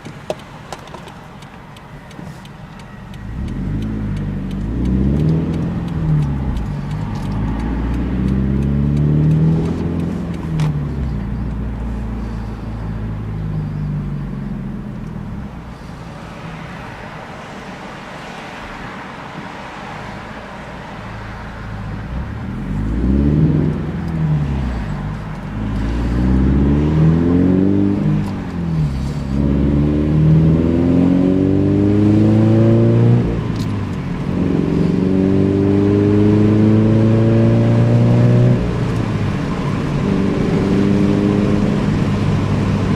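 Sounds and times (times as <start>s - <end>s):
road rush: 0.0s - 42.9s
car exhaust accelerating: 2.3s - 17.2s, 21.0s - 42.9s.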